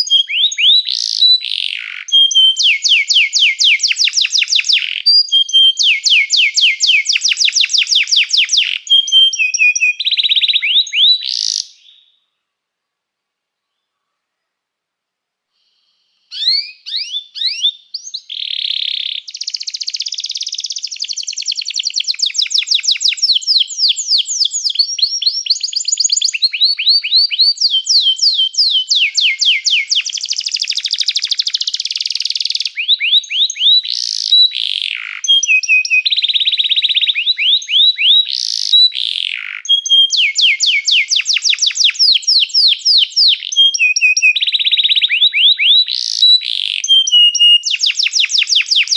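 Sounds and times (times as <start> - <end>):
canary singing trills: 0.0 - 12.2, 16.1 - 48.9
sharp down-slurred whistles: 2.1 - 12.1, 16.3 - 39.0, 39.7 - 48.9.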